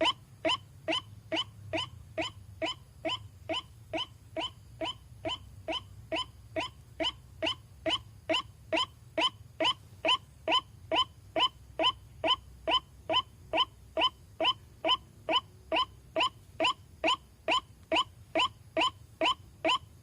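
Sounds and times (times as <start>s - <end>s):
waterhen call: 0.0s - 20.0s.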